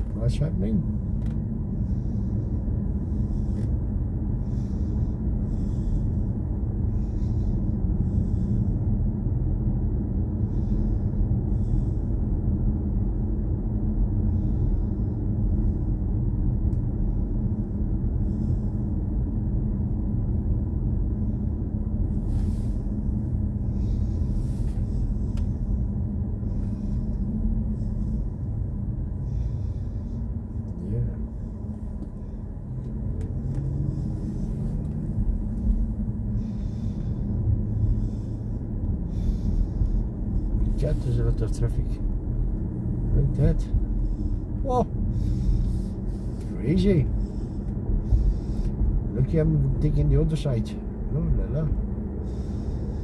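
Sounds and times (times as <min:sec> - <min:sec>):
road and tyre noise: 0:00.0 - 0:53.0.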